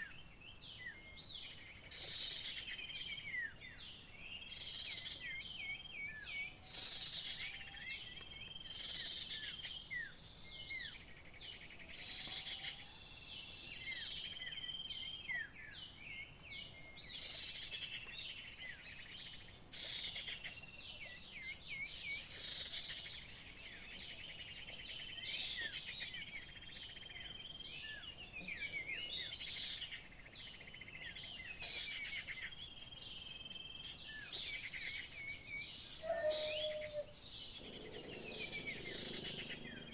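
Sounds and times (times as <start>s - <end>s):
faint outdoor background noise: 0.0s - 39.9s
small birds chirping: 0.0s - 39.9s.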